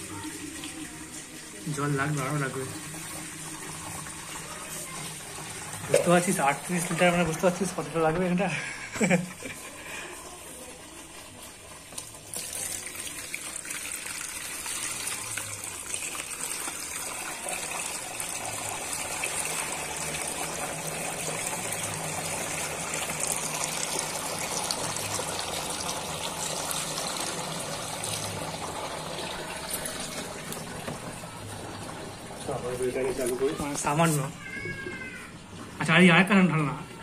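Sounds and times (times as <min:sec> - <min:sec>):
water pouring into a tank: 0:00.0 - 0:08.8, 0:09.4 - 0:36.7.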